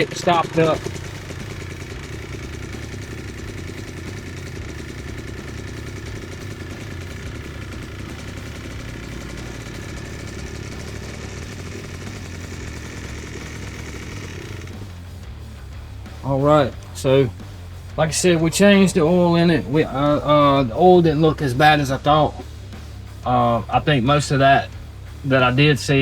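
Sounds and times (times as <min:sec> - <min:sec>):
two-stroke engine idling: 0:00.0 - 0:26.0.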